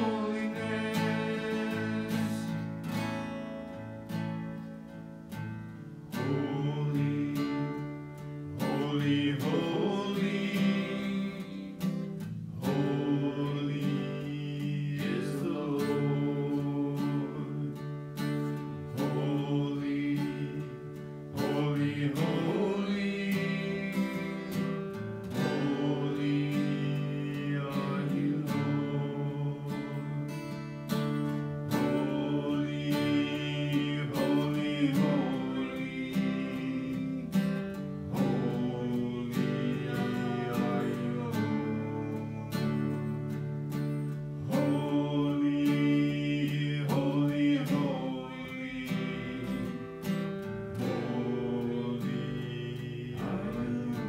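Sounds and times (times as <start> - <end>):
man singing worship song: 0.0 - 3.4, 6.0 - 54.0
acoustic guitar strumming: 0.0 - 54.0.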